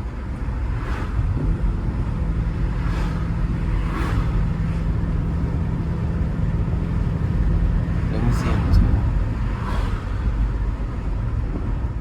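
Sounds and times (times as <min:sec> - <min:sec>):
car engine droning: 0:00.0 - 0:12.0
road noise: 0:00.0 - 0:12.0.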